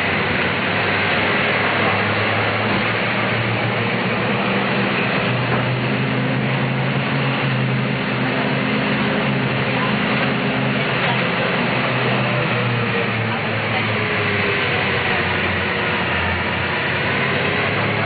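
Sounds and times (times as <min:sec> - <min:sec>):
bus engine running: 0:00.0 - 0:18.0
road noise: 0:00.0 - 0:18.0.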